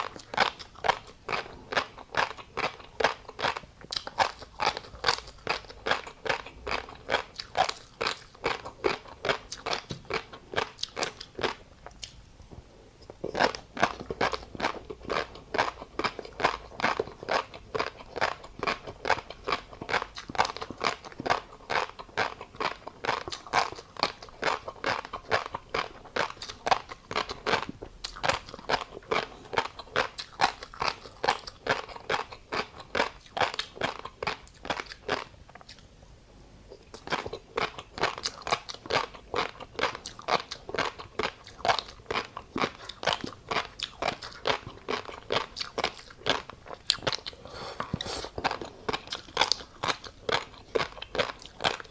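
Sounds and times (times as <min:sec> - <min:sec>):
mouth chewing crunchy food: 0:00.0 - 0:51.9.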